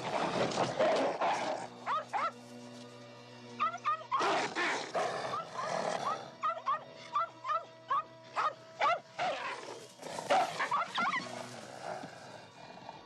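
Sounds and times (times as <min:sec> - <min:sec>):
background music with sustained tones: 0:00.0 - 0:13.0.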